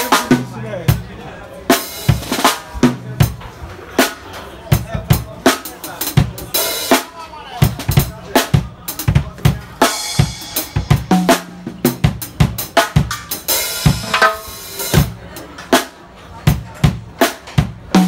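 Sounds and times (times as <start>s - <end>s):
drum kit groove with sticks: 0.0s - 18.0s.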